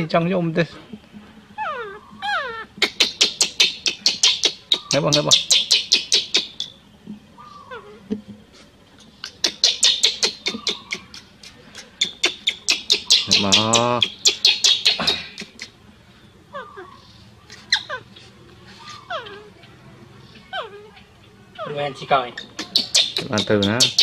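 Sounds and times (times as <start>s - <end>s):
infant monkey squeaking: 1.6s - 6.8s, 7.4s - 8.1s, 9.0s - 15.8s, 16.5s - 19.7s, 20.4s - 24.0s.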